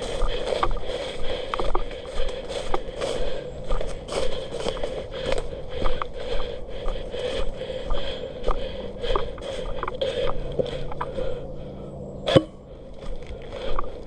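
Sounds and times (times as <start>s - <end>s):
rhythmic scraping and rustling: 0.0s - 11.4s.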